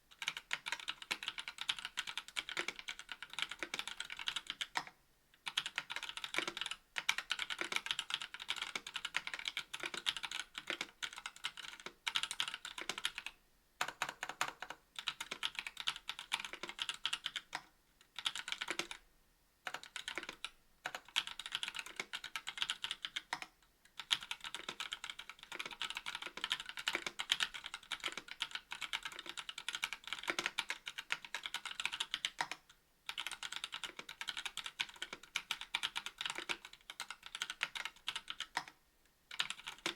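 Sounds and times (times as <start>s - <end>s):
typing on mechanical keyboard: 0.1s - 19.0s, 19.7s - 39.9s.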